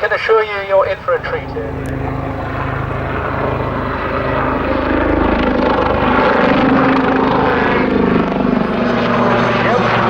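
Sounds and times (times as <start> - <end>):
helicopter flying: 0.0 - 10.0.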